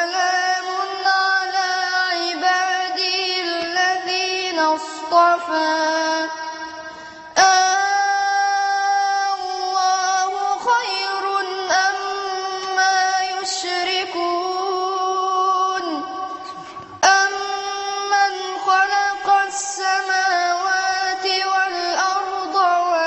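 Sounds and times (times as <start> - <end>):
boy reciting melodically: 0.0 - 23.0.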